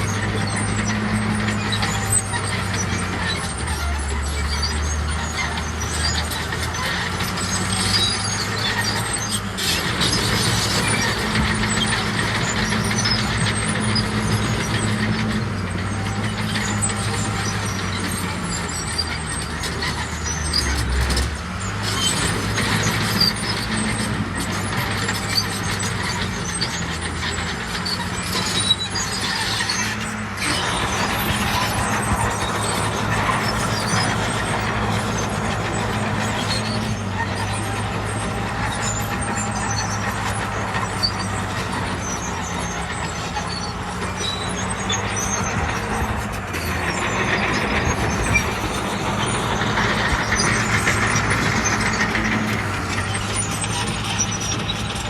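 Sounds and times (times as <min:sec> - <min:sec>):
diesel earthmoving machinery running: 0:00.0 - 0:55.0.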